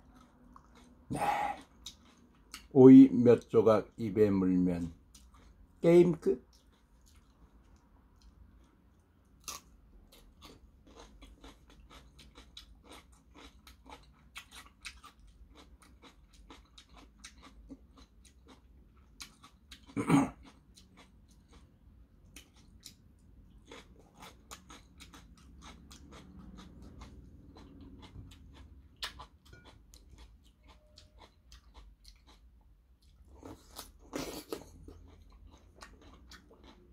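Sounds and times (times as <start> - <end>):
crunchy chewing of cucumber: 0.0 - 5.7, 6.4 - 36.9.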